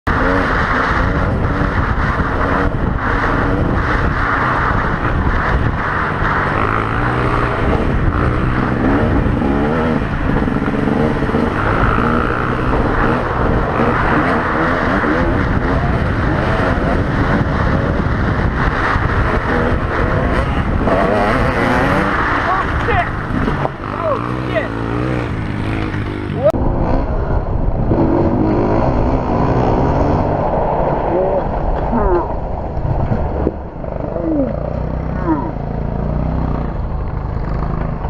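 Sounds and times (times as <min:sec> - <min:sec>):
dirt bike engine revving: 0:00.1 - 0:30.4, 0:33.8 - 0:38.0.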